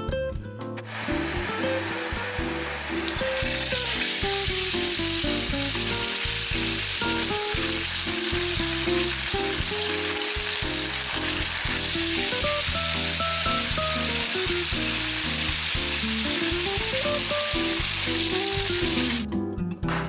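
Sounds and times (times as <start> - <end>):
background music: 0.0 - 20.0
fish sizzling in hot oil: 0.9 - 19.2.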